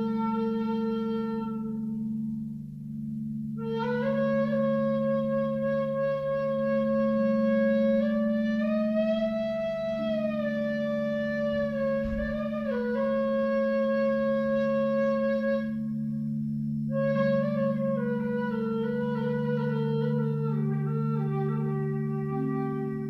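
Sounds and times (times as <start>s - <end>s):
singing bowl drone: 0.0s - 23.0s
wooden flute playing long notes: 0.0s - 23.0s.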